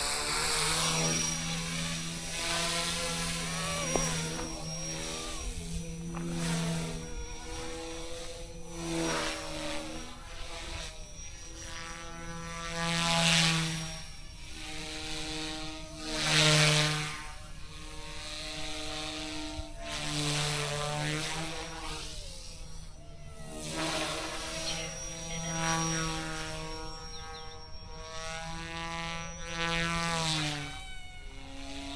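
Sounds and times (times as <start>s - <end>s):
rc helicopter rotor buzz: 0.0s - 31.9s.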